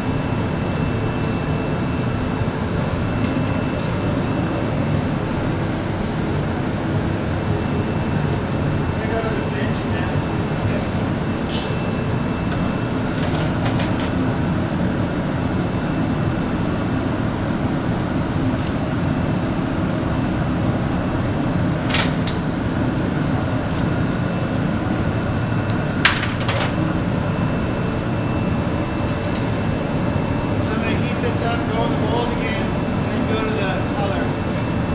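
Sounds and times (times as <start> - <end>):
gas burner roaring: 0.0 - 34.9.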